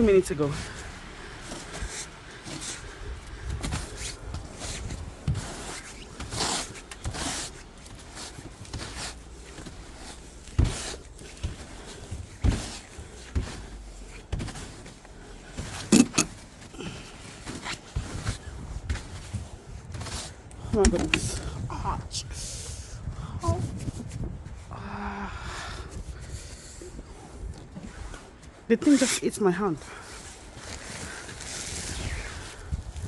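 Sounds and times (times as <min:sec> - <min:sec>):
snow brushed and scraped off car: 0:00.0 - 0:21.5, 0:25.9 - 0:33.0.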